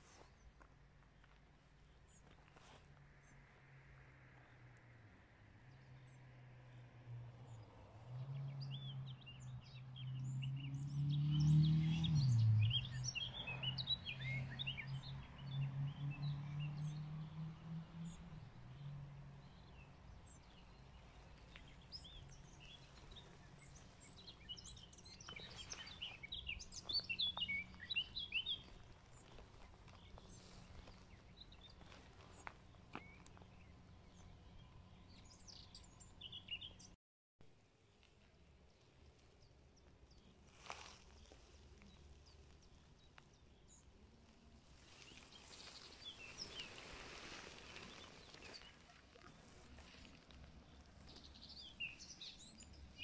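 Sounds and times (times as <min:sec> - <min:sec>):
songbirds chirping and singing: 0:07.5 - 0:37.0, 0:39.0 - 0:53.0.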